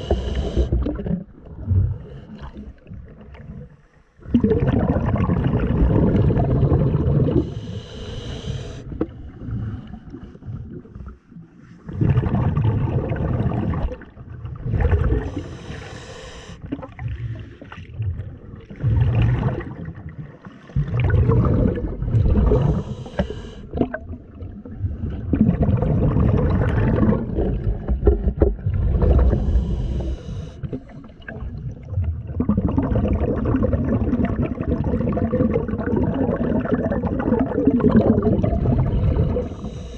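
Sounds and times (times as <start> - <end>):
underwater rumbling and bubbling: 0.0 - 39.9.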